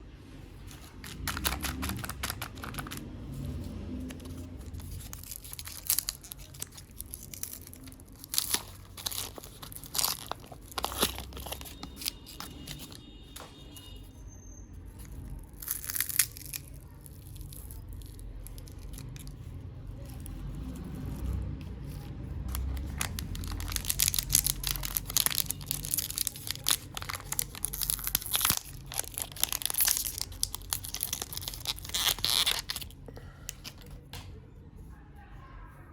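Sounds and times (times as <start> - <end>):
wrapper tearing and crinkling: 0.7 - 13.1, 14.9 - 19.4, 20.0 - 33.0.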